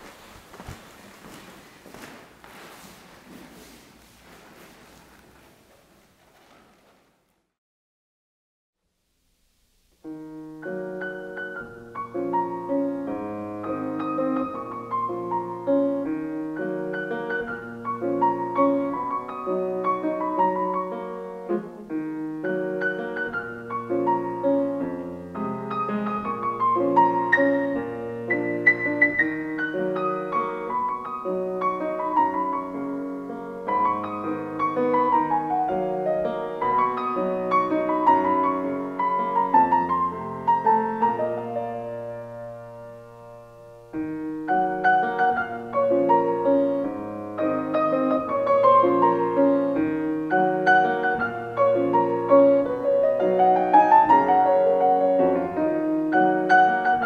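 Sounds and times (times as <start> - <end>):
solo piano melody: 9.8 - 57.0.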